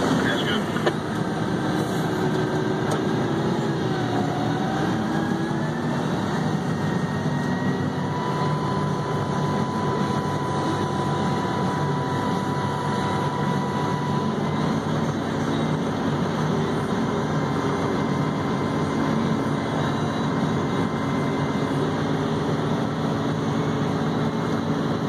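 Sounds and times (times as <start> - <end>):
diesel truck engine from cab: 0.0 - 25.0
steady whine: 0.0 - 25.0.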